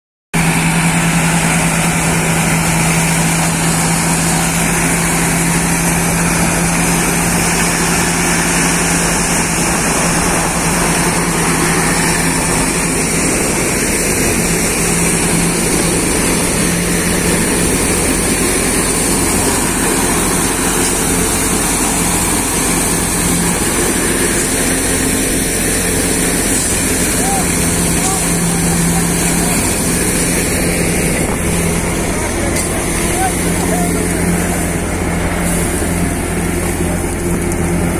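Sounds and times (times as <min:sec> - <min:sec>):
wheat thresher droning: 0:00.4 - 0:37.9.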